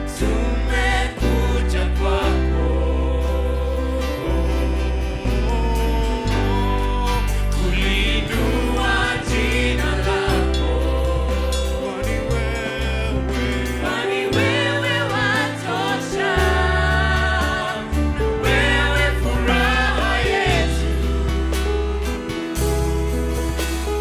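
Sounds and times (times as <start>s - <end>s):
bass and keyboard chords: 0.0s - 24.0s
choir singing: 0.0s - 24.0s.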